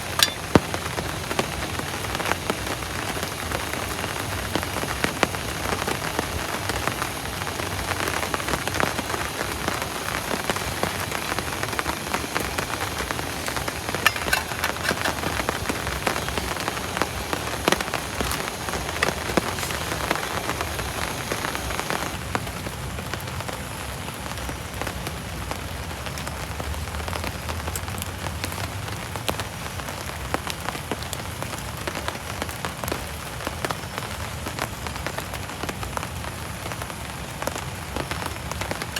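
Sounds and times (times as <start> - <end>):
heavy rain with drop taps: 0.0 - 38.9.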